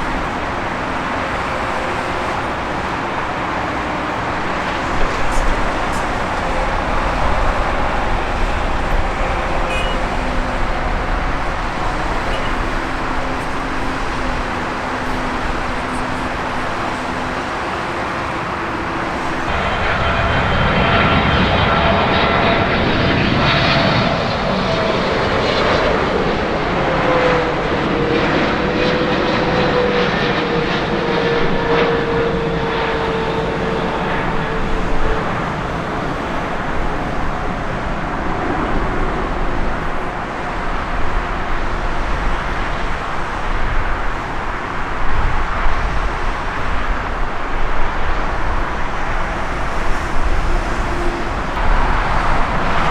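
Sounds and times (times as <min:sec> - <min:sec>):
jet engines whining: 0:00.0 - 0:52.9.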